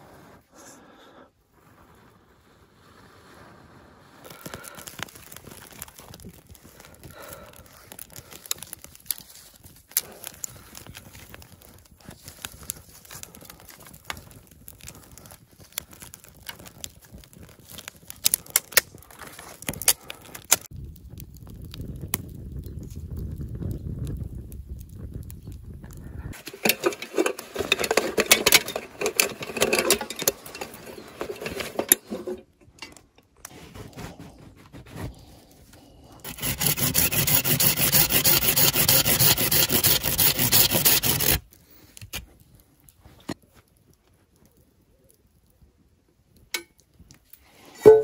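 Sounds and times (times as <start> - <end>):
kindling crackling and snapping: 0.1 - 47.8.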